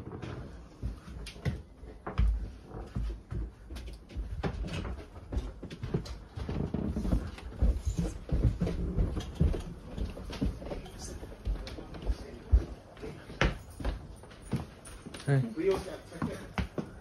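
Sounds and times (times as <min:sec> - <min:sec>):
footsteps: 0:00.0 - 0:17.0.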